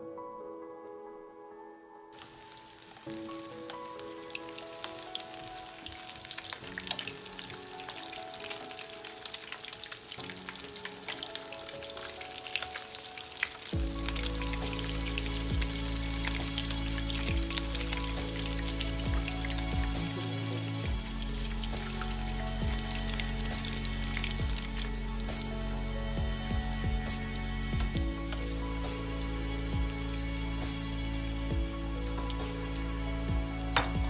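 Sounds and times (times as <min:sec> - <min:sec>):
background music with held chords: 0:00.0 - 0:34.0
fritters sizzling in oil: 0:02.2 - 0:34.0.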